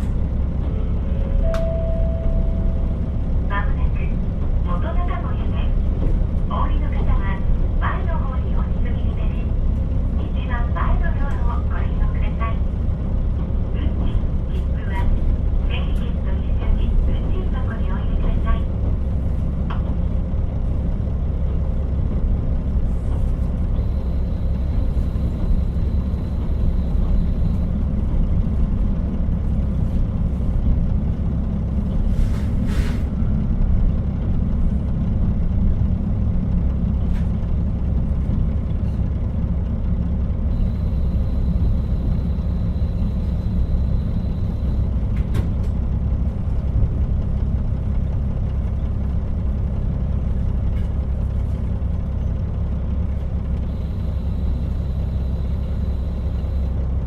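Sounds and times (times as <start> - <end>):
railcar engine and wheels rumble: 0.0 - 57.0.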